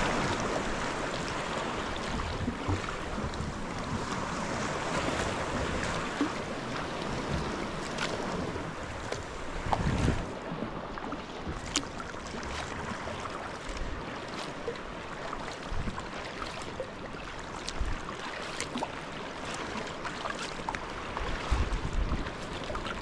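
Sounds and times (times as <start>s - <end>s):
kayak paddle splashing: 0.0s - 23.0s
paddle swish: 0.0s - 23.0s.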